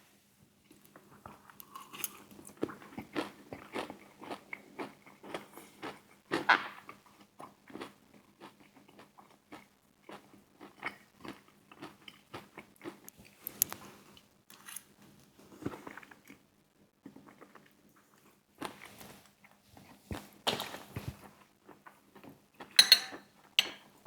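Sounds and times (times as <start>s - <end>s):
person chewing crunchy food: 0.9s - 14.1s, 15.5s - 22.8s.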